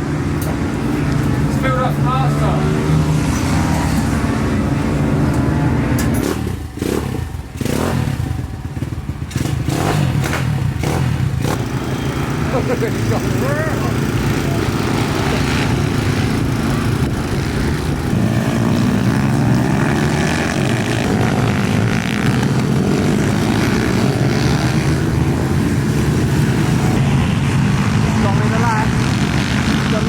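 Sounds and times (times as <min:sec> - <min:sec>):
pit bike engines revving: 0:00.0 - 0:30.0.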